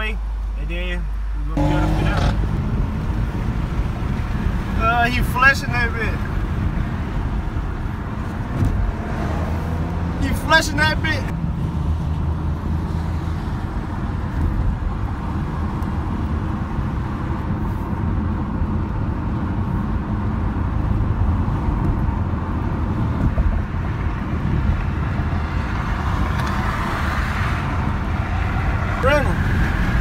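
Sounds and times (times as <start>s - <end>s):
road and engine noise inside car: 0.0s - 30.0s.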